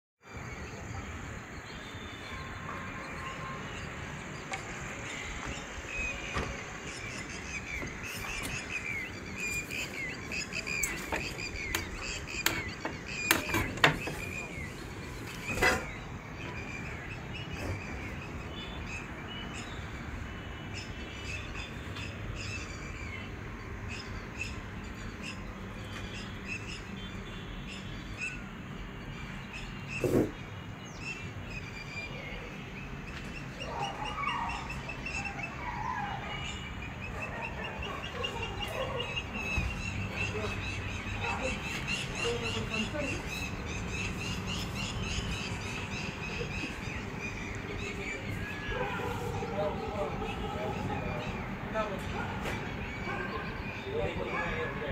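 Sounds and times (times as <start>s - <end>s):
birds chirping: 0.2s - 54.9s
outdoor background noise: 0.2s - 54.9s.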